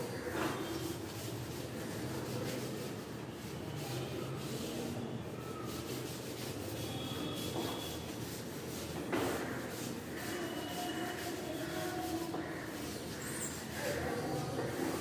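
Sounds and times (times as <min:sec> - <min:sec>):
chalkboard being wiped: 0:00.0 - 0:15.0.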